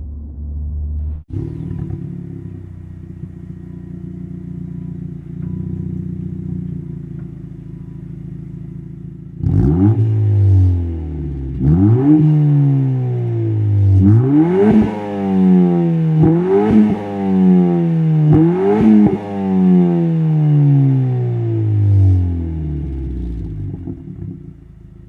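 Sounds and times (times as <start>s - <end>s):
car engine idling: 0.0s - 14.5s, 15.2s - 25.0s
car engine revving: 0.0s - 25.0s.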